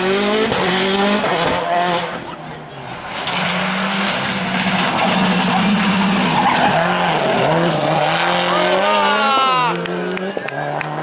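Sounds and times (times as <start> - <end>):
rally car engine revving: 0.0 - 11.0
tyres skidding: 0.0 - 11.0.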